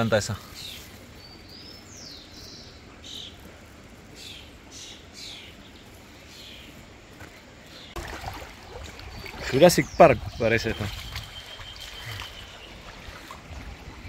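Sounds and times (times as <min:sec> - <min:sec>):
faint outdoor background noise: 0:00.0 - 0:14.0
wild birds calling: 0:00.0 - 0:14.0.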